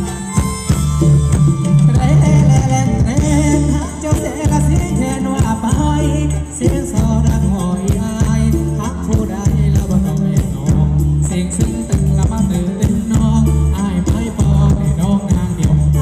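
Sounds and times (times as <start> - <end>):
band playing dance music: 0.0 - 16.0
heavy pulsing bass beat: 0.0 - 16.0
person singing: 1.0 - 16.0.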